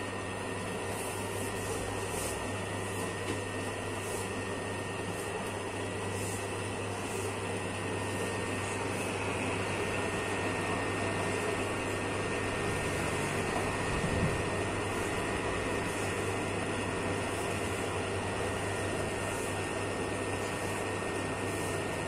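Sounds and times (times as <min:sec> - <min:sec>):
dough mixer motor humming: 0:00.0 - 0:22.0
dough swishing: 0:00.1 - 0:22.0.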